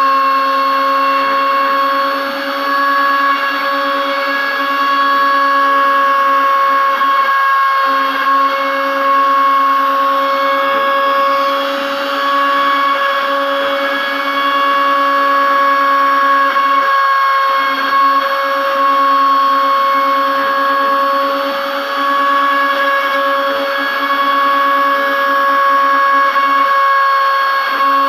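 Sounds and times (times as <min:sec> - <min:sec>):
router spindle whine: 0:00.0 - 0:28.0.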